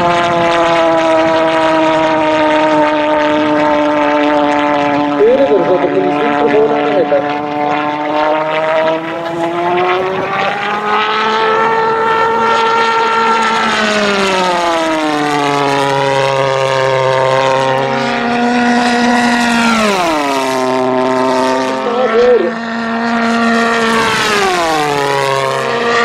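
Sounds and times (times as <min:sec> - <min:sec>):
model jet engine high-pitched tone: 0:00.0 - 0:26.0.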